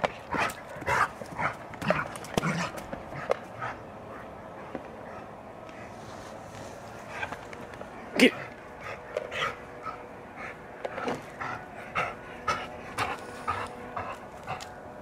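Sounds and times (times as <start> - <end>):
dog panting: 0.2 - 6.1, 7.0 - 14.8.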